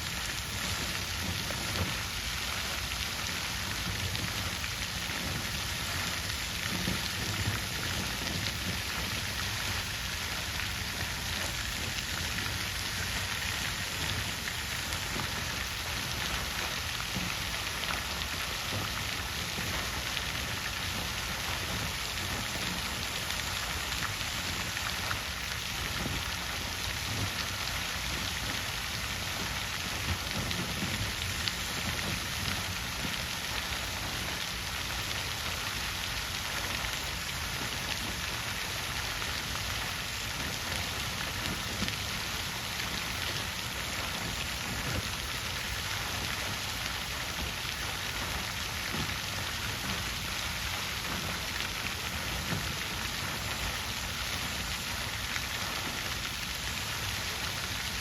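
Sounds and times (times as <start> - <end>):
water fountain splashing: 0.0 - 58.0.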